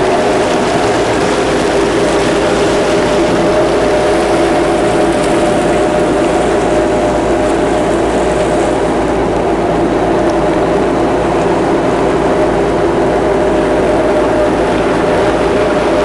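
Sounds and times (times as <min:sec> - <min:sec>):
boat engine drone: 0:00.0 - 0:16.0
water rushing hiss: 0:00.0 - 0:16.0.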